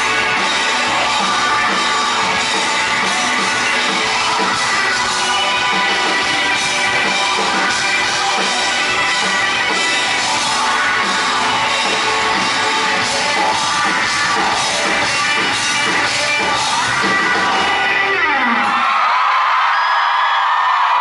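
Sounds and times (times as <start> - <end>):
electric guitar: 0.0 - 19.0.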